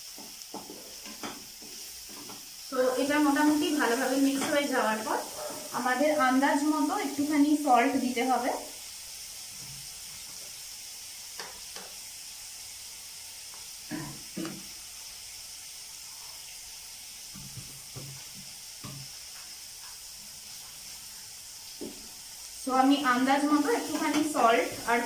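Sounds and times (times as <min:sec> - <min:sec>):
onion sizzling in hot oil: 0:00.0 - 0:25.0.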